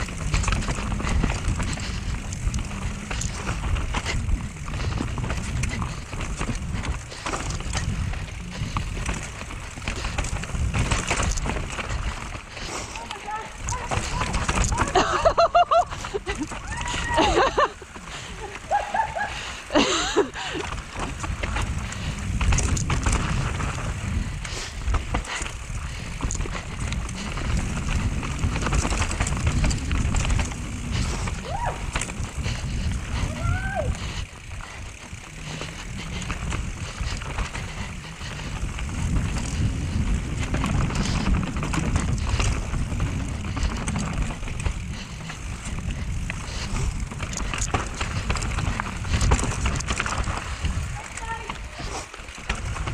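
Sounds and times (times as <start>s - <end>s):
bike chain and frame rattling: 0.0s - 52.9s
wind and tyres rumbling: 0.0s - 52.9s.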